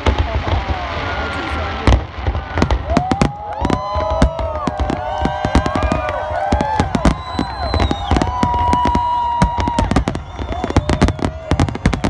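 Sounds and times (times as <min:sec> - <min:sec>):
fireworks bangs and crackling: 0:00.0 - 0:12.0
fireworks whistling: 0:00.0 - 0:12.0.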